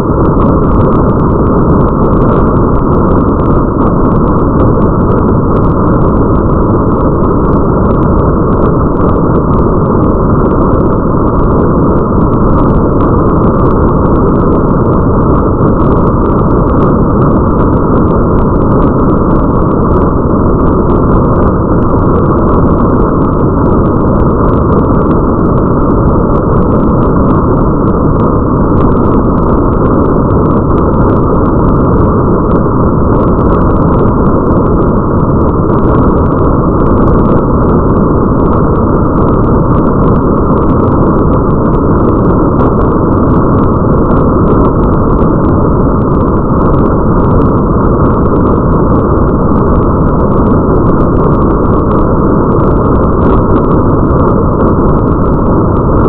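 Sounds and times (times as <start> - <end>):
muffled rain: 0.0 - 56.0.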